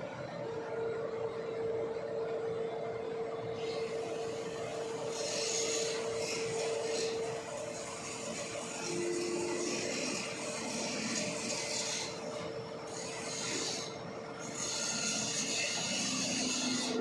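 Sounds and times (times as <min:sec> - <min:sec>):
pump machinery whine: 0:00.0 - 0:17.0.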